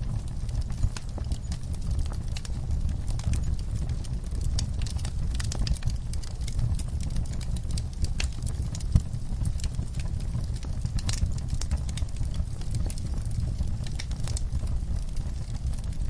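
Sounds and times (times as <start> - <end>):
logs crackling and popping: 0.0 - 16.0
wood fire burning: 0.0 - 16.0.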